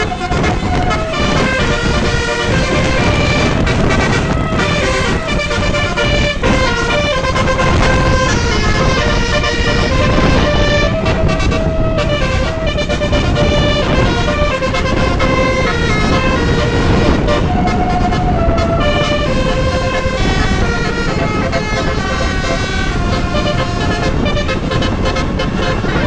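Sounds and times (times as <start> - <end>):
bus engine and road noise: 0.0 - 26.0
multi-tone musical air horn: 0.0 - 26.0.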